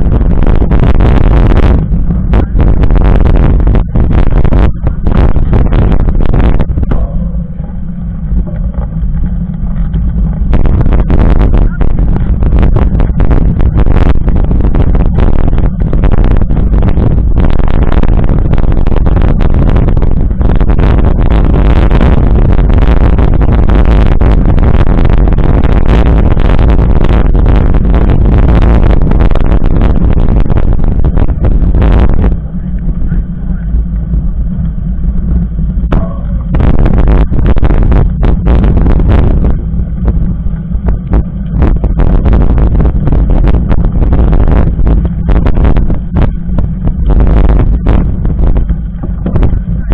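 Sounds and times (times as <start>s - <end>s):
bike tyre rolling over gravel: 0.0s - 49.9s
wind buffeting microphone: 0.0s - 49.9s.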